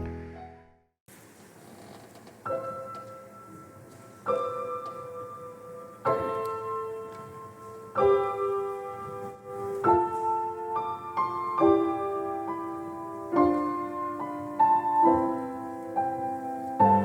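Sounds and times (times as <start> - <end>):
solo piano slow chords: 0.0 - 0.8, 2.4 - 17.0.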